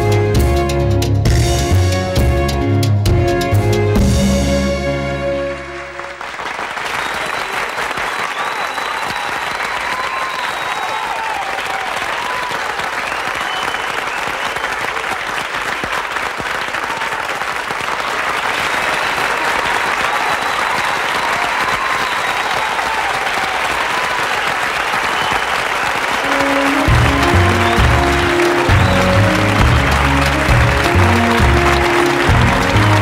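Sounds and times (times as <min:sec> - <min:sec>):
audience applauding: 0:04.6 - 0:33.0.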